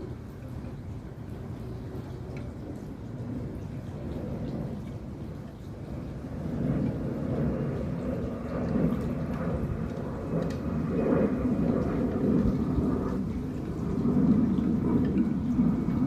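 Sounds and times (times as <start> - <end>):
low rumble of wind or traffic: 0.0 - 16.0.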